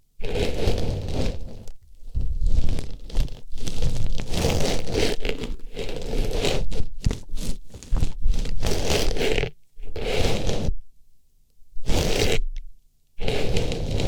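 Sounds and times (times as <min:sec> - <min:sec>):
scratchy rustling on microphone: 0:00.2 - 0:10.8, 0:11.8 - 0:12.5, 0:13.2 - 0:14.0.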